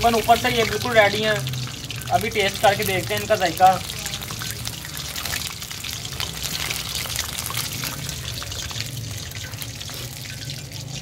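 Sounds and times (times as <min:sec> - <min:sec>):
chicken deep-frying in hot oil: 0:00.0 - 0:11.0.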